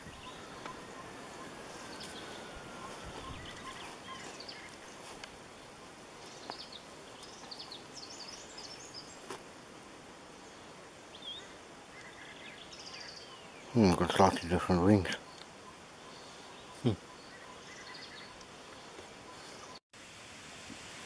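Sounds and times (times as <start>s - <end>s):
small birds chirping: 0.0s - 9.4s, 10.3s - 19.8s
background hiss: 0.0s - 21.0s.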